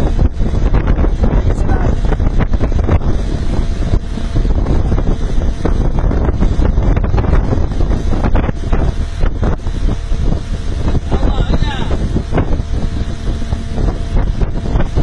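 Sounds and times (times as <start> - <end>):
seawater churning: 0.0 - 15.0
ship engine rumble: 0.0 - 15.0
wind buffeting microphone: 0.0 - 15.0.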